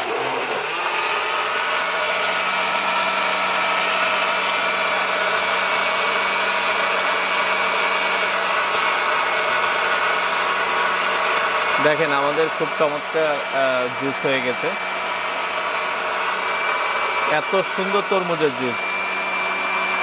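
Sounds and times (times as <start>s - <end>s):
blender motor whining: 0.0s - 20.0s.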